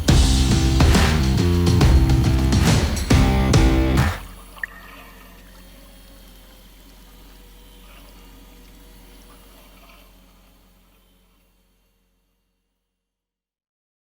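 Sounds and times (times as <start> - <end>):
motor hum: 0.0 - 12.7.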